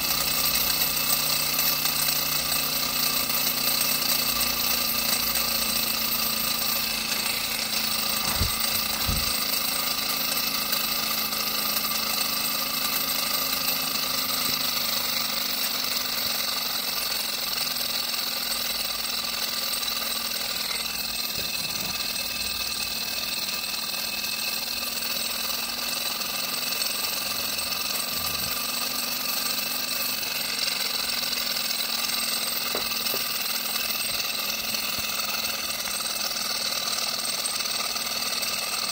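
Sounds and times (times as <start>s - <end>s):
model engine mechanical rattle: 0.0s - 38.9s.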